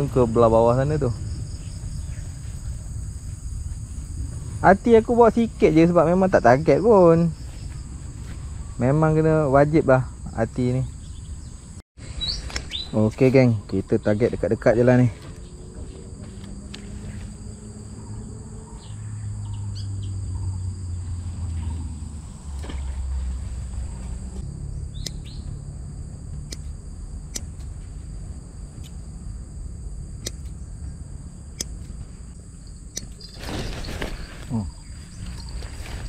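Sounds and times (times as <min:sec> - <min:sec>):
low droning hum: 0:00.0 - 0:12.2, 0:13.9 - 0:36.0
high insect drone: 0:00.0 - 0:36.0.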